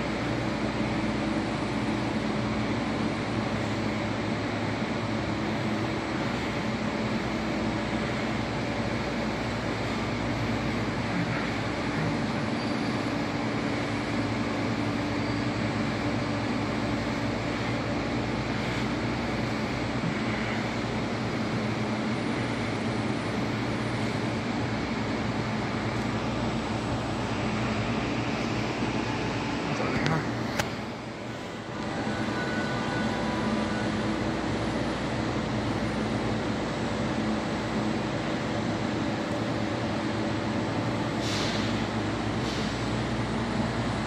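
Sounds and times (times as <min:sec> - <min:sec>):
electric train humming: 0:00.0 - 0:44.0.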